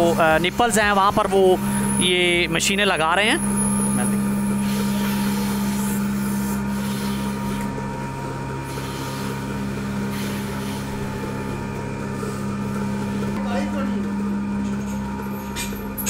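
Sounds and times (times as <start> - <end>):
milking machine humming: 0.0 - 16.0.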